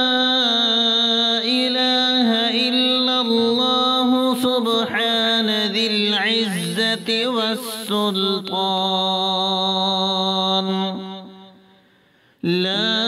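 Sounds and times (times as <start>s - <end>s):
person chanting melodically: 0.0s - 11.8s, 12.4s - 13.0s.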